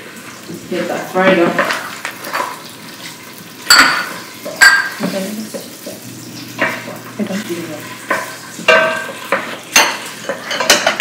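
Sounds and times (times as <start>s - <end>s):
paste sizzling in a pot: 0.0s - 11.0s.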